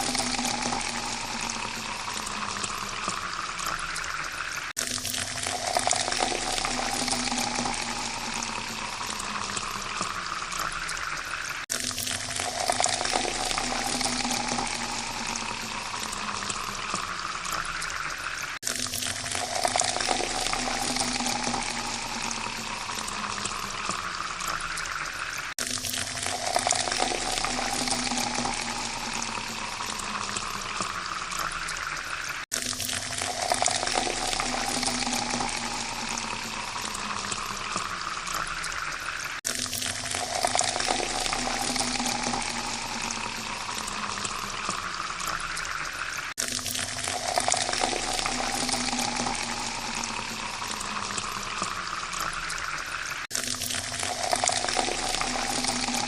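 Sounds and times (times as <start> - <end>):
water pouring into glass: 0.0 - 56.0.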